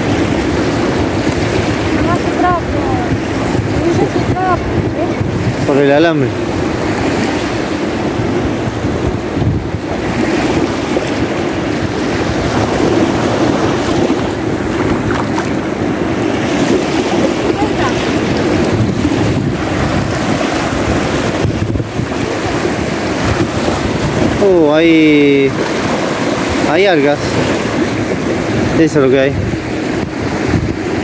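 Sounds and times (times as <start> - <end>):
small surf waves breaking: 0.0 - 31.0
wind buffeting microphone: 0.0 - 31.0.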